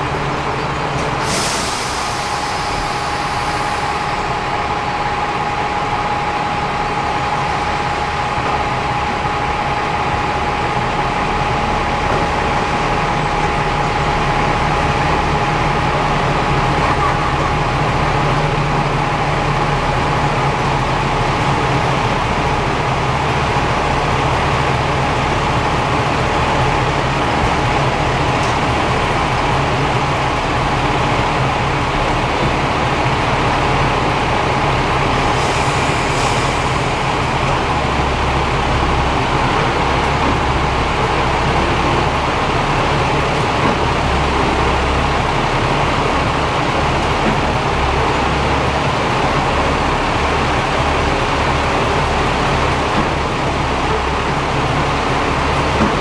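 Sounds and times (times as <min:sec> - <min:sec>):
diesel train engines running: 0:00.0 - 0:56.0.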